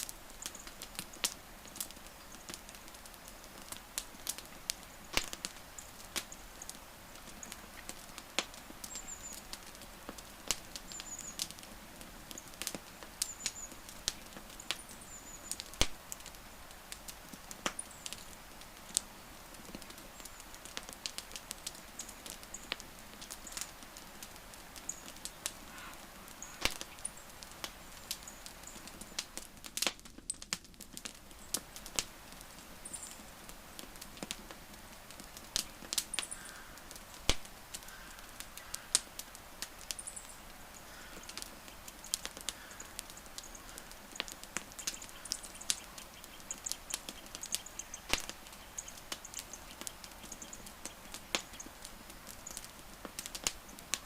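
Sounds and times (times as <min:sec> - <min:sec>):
campfire crackling: 0:00.0 - 0:54.0
soft steady hiss: 0:00.0 - 0:54.0.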